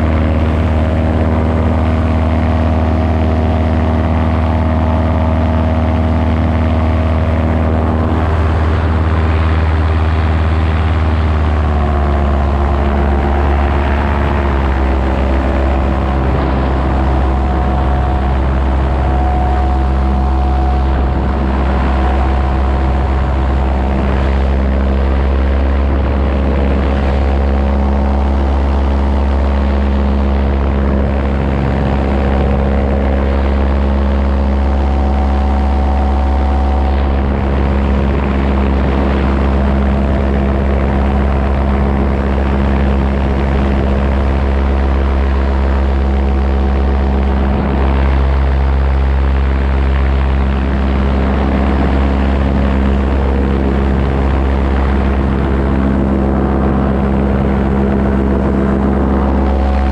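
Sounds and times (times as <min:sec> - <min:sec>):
paramotor engine droning: 0:00.0 - 0:59.9.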